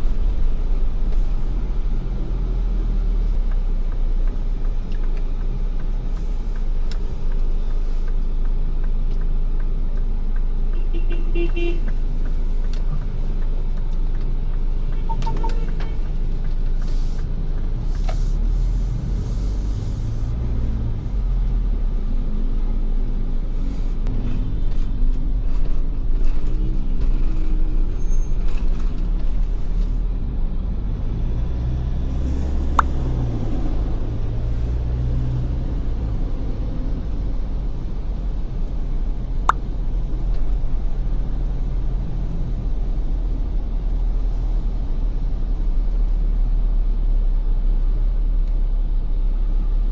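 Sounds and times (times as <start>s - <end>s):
car engine and tyre rumble: 0.0s - 49.9s.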